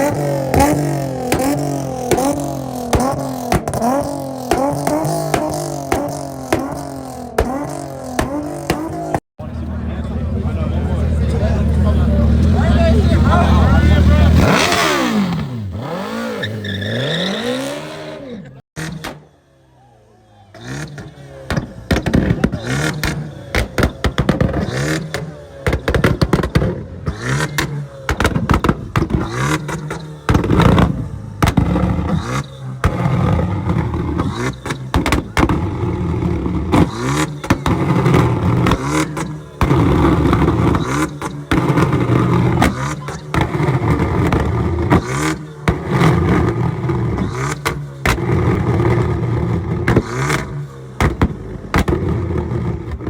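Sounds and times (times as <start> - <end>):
exhaust crackling and popping: 0.0 - 17.8, 20.5 - 53.0
car engine revving: 0.0 - 19.7, 20.3 - 53.0.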